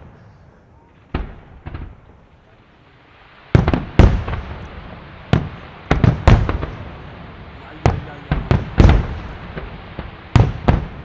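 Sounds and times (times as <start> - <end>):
fireworks bursting with echo: 0.0 - 11.0.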